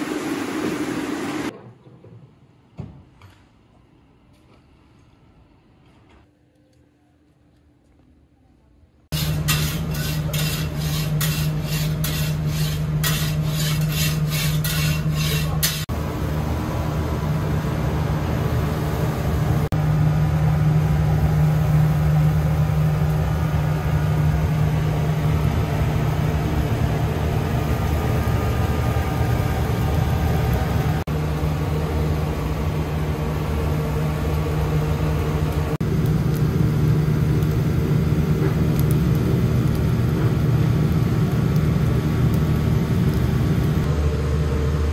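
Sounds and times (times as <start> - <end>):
kitchen exhaust fan drone: 0.0 - 1.9, 9.0 - 44.9.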